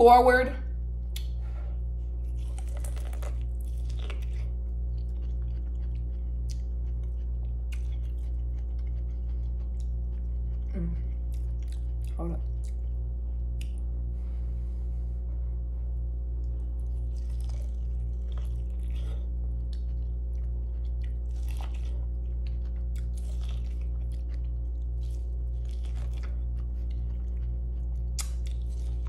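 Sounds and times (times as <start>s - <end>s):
steady low hum: 0.0s - 29.0s
chewing corn on the cob: 2.2s - 14.0s, 16.4s - 29.0s.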